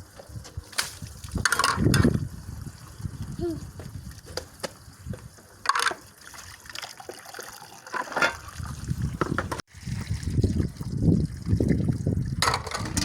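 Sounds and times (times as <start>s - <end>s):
water trickling and sloshing: 0.1s - 13.0s.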